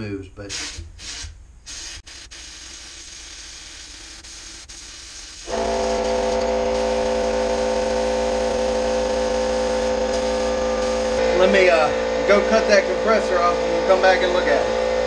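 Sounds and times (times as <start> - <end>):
air compressor humming drone: 0.4 - 15.0
sandblaster air hiss: 0.5 - 12.8.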